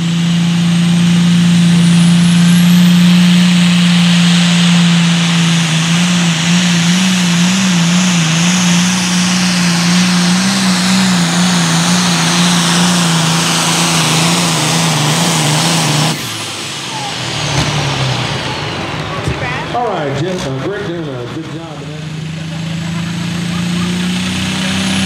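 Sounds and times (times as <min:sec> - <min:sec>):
diesel engine running flat out: 0:00.0 - 0:25.0.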